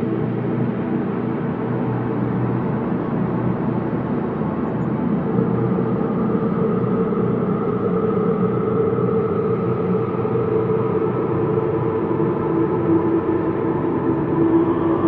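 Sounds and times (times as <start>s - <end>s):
deep layered ambient drone: 0.0s - 15.0s.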